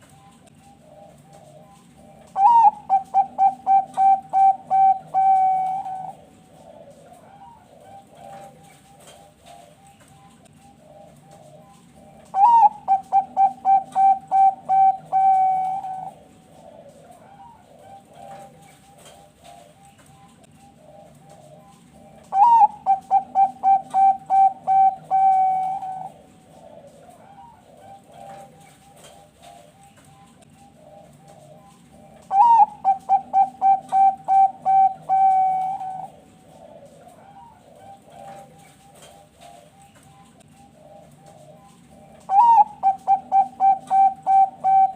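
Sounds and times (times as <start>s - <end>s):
dove cooing song: 0.0s - 44.9s
faint distant doves cooing: 0.0s - 44.9s.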